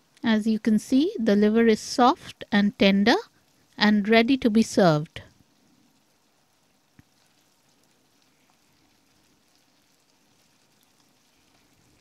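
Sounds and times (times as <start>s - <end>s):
liver sizzling in frying pan: 0.0s - 12.0s.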